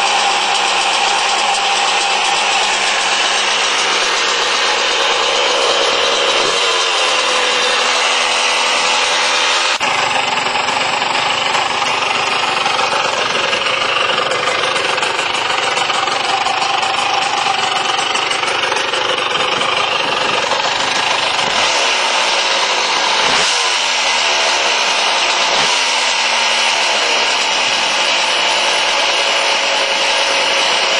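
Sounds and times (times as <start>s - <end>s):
two-stroke engine running: 0.0s - 30.9s.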